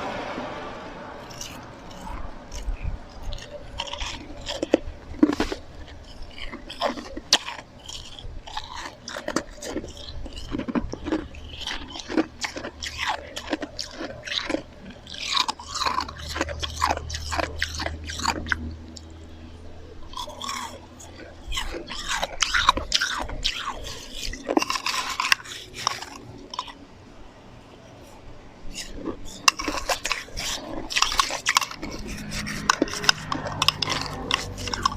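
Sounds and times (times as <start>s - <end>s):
chewing and crunching ice: 1.2s - 26.8s, 27.8s - 34.9s.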